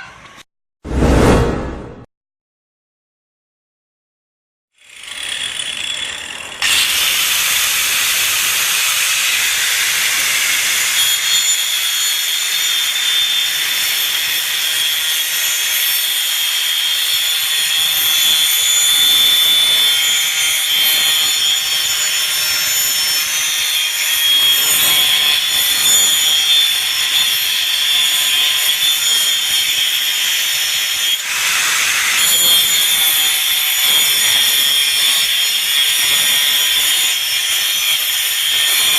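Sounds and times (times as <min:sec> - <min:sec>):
angle grinder whining: 0:04.8 - 0:38.9.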